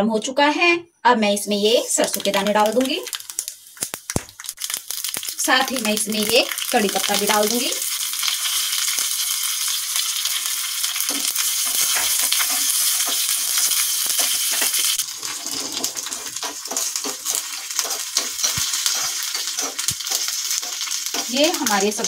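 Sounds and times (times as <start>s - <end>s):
seeds sizzling in hot oil: 1.4s - 22.0s
spoon stirring against pan: 1.5s - 22.0s.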